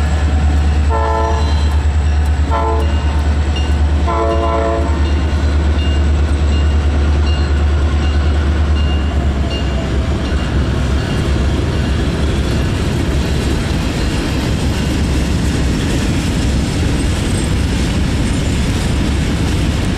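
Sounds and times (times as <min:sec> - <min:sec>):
freight train wheels clattering: 0:00.0 - 0:19.9.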